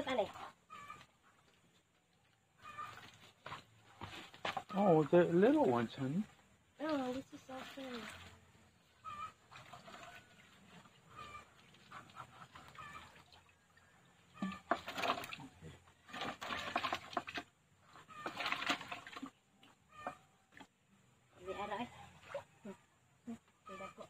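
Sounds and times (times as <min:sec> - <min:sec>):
fish splashing in a bucket: 0:00.0 - 0:06.2, 0:06.8 - 0:20.8.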